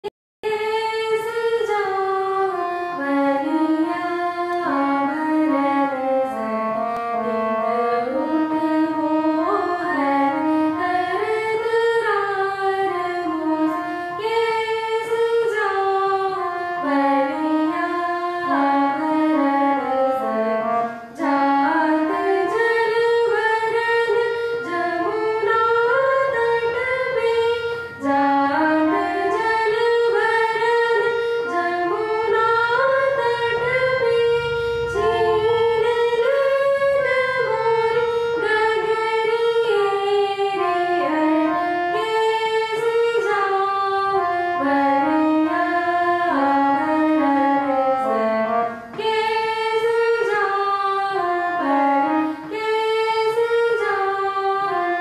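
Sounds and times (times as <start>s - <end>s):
harmonium: 0.4s - 55.0s
woman singing classical song: 0.4s - 55.0s.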